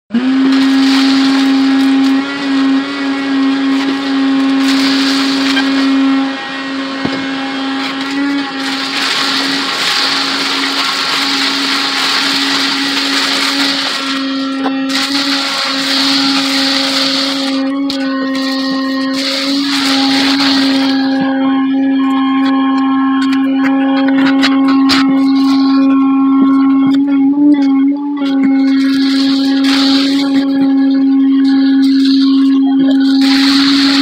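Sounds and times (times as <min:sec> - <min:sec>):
wet dry vacuum running: 0:00.1 - 0:34.0
vacuum sucking up broken glass: 0:00.4 - 0:22.4, 0:24.5 - 0:34.0.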